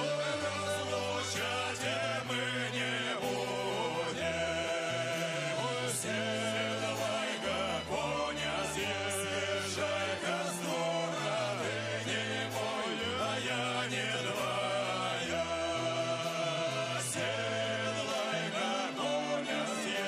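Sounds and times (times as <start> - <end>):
song with singing voices: 0.0 - 20.0.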